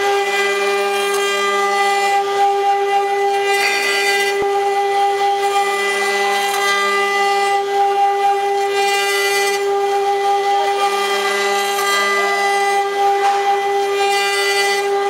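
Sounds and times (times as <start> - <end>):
bit carving wood: 0.0 - 15.0
router spindle whine: 0.0 - 15.0.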